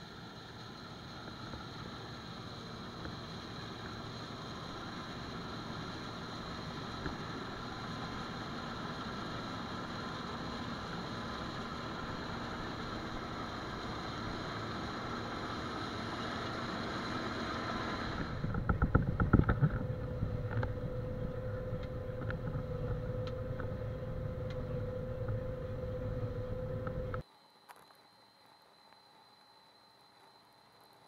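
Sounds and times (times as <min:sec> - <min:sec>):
combine harvester running: 0:00.0 - 0:27.2
steady hum in cab: 0:00.0 - 0:31.0.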